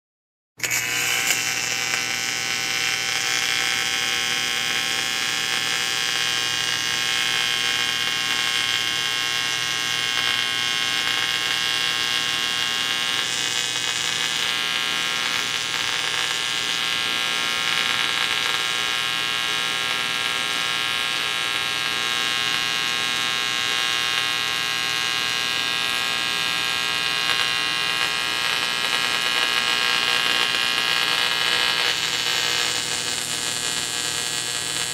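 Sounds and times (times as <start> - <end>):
electrical wires buzzing: 0.6 - 34.9.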